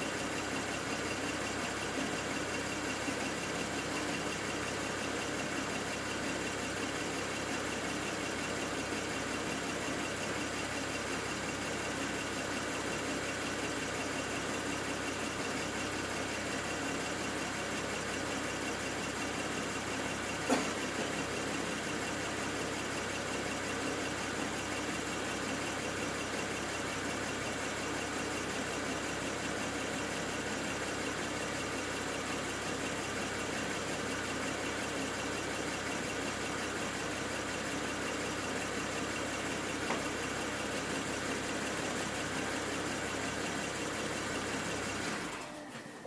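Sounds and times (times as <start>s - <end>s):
car engine idling with misfires: 0.0s - 46.0s.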